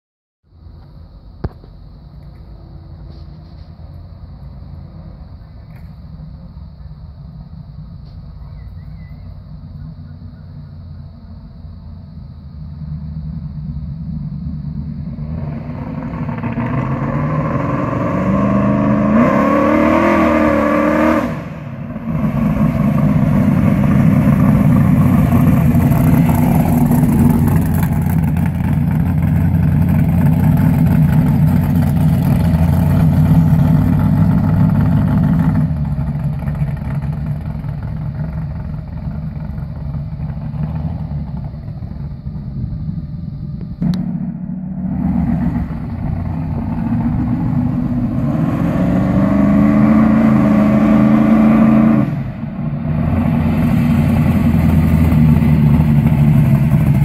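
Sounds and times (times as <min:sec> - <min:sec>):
car passing: 0:02.0 - 0:57.0.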